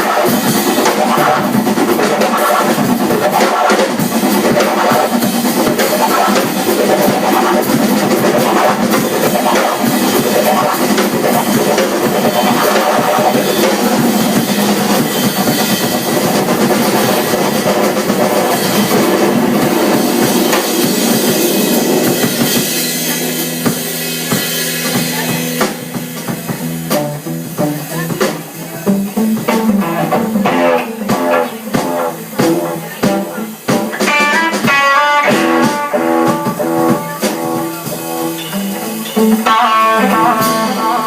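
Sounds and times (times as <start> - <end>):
rock music with drums: 0.0 - 41.0.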